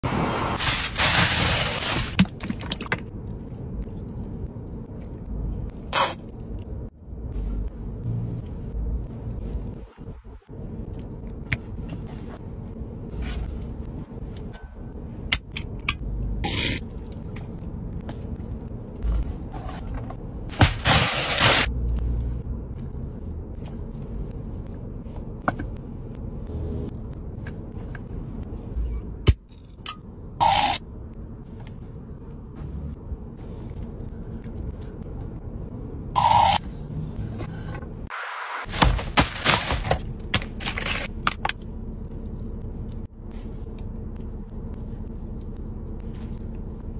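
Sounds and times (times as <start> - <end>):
steady low rumble: 0.6 - 38.1, 38.7 - 46.9.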